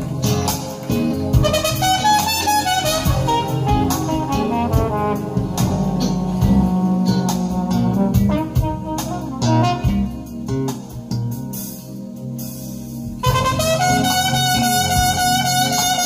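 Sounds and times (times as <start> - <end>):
bass: 0.0 - 16.0
guitar: 0.0 - 16.0
jazz brass solo: 0.0 - 16.0.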